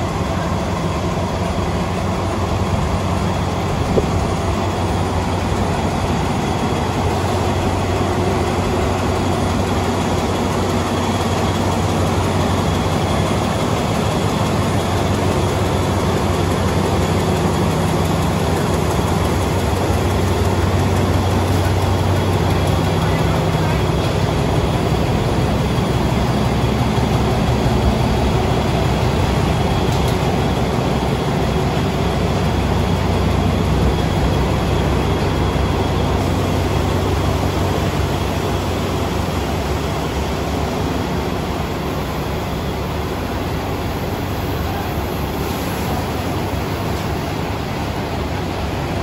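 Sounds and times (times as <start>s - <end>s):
diesel train engine idling: 0.0s - 49.0s.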